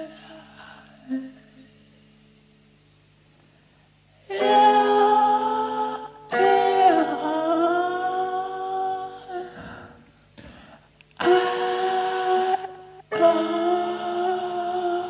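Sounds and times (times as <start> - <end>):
long held melodic notes: 0.0 - 10.3, 11.2 - 15.0.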